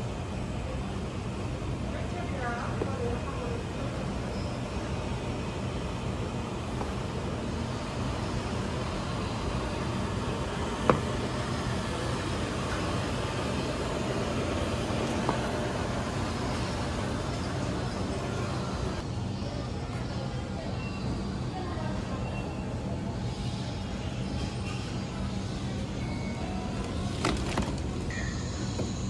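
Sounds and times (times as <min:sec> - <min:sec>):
supermarket hum and hiss: 0:00.0 - 0:29.0.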